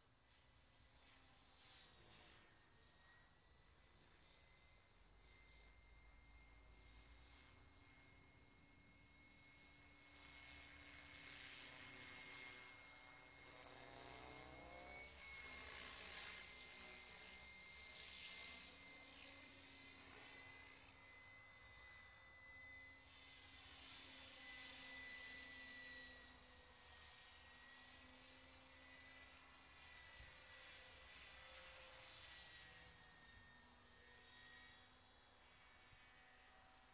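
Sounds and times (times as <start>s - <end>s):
rc helicopter whine: 0.0s - 36.9s.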